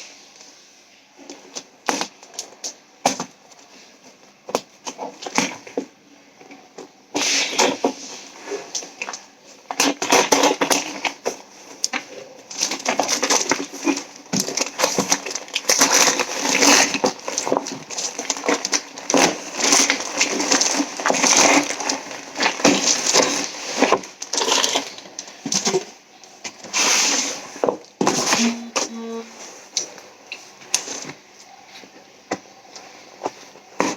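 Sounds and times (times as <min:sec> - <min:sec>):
packaging crinkling and rustling: 0:01.2 - 0:33.9.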